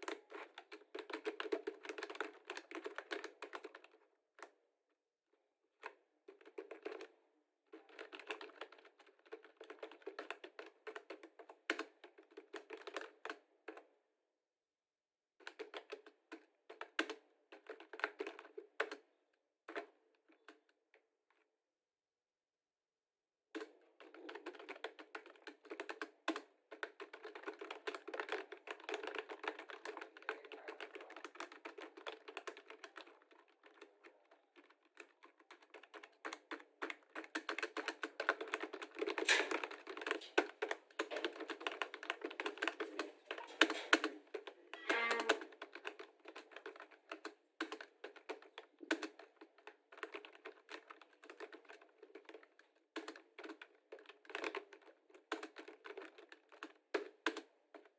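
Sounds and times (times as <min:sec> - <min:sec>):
computer keyboard typing: 0:00.1 - 0:03.9, 0:07.8 - 0:13.1, 0:15.5 - 0:19.0, 0:23.6 - 0:57.5.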